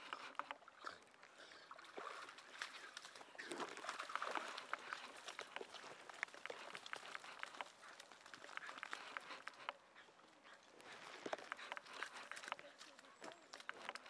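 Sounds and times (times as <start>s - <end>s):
dogs pattering on dirt path: 2.3s - 14.0s.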